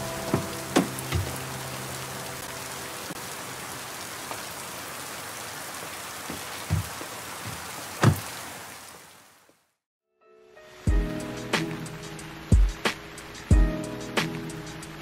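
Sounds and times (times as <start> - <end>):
steady rain falling: 0.0 - 9.8, 10.8 - 15.0.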